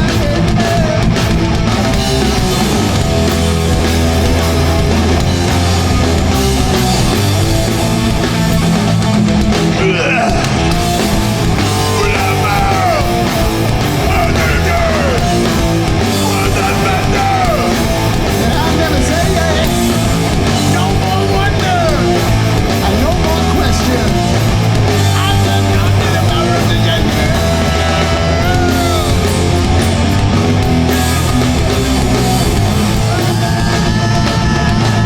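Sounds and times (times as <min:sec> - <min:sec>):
bass guitar: 0:00.0 - 0:35.0
distorted electric guitars: 0:00.0 - 0:35.0
drums: 0:00.0 - 0:35.0.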